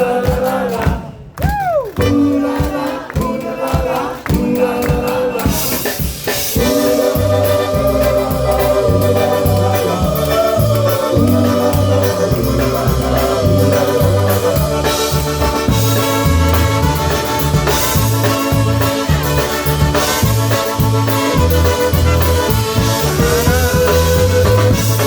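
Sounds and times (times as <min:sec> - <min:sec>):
polka band playing: 0:00.1 - 0:25.0.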